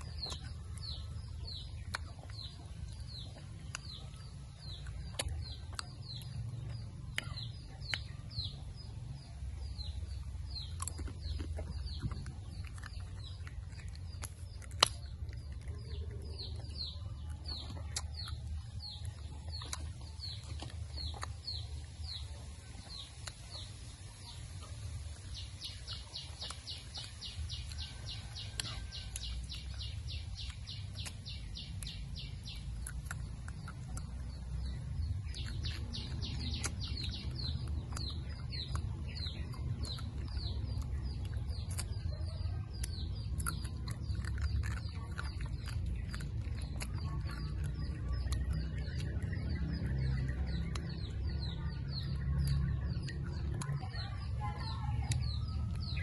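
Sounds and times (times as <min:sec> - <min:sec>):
bird chirping: 0:00.0 - 0:56.0
chewing clicks and smacks: 0:00.0 - 0:56.0.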